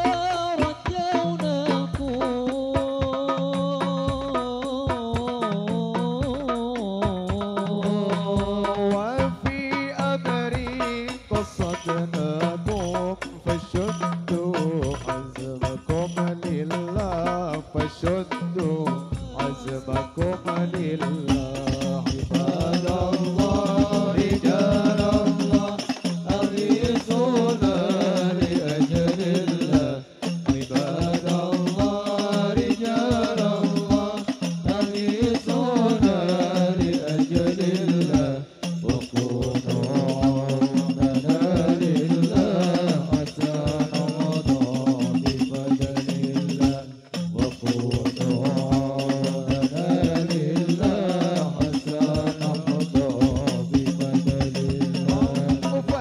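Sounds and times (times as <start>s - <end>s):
frame drums beating: 0.0s - 56.0s
men singing into microphones: 0.0s - 56.0s.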